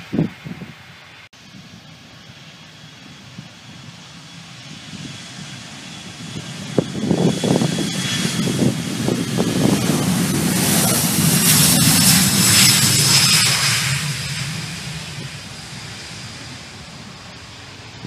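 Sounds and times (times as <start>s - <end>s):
jet engines at takeoff power: 0.0s - 18.0s.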